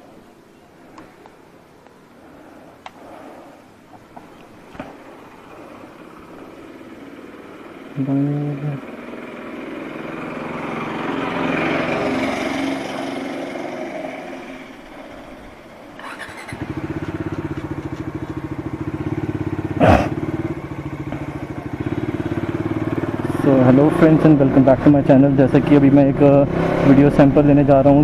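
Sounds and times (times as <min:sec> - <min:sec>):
motorcycle engine starting and idling: 0:03.8 - 0:28.0.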